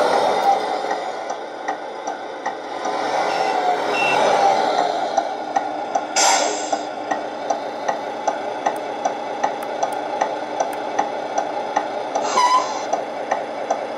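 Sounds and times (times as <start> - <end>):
simulated diesel engine idling: 0.0 - 13.9.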